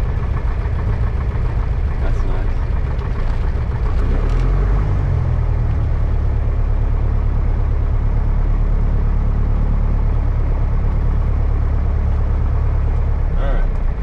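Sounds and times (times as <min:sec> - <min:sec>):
propeller plane engine idling: 0:00.0 - 0:14.0.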